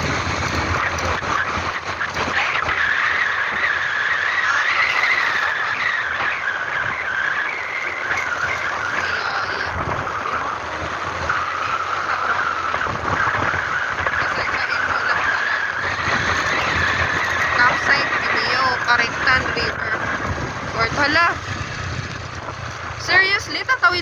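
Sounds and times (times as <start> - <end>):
continuous high squeal: 0.0 - 24.0
vehicle on rough road: 0.0 - 24.0.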